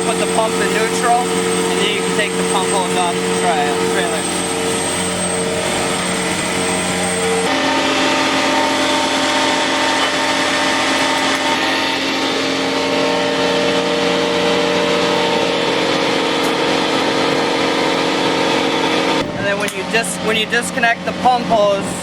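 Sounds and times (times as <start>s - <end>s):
truck engine and vacuum pump drone: 0.0s - 22.0s.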